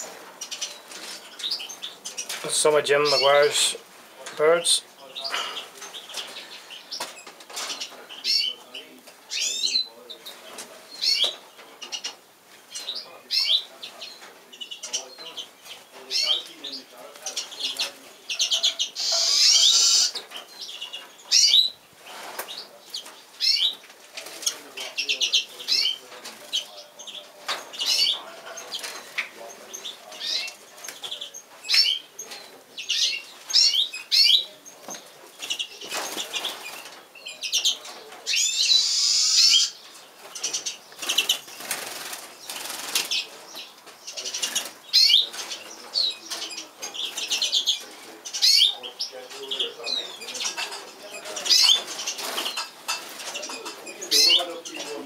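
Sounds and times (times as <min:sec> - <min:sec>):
magpies chattering: 0:00.0 - 0:55.0.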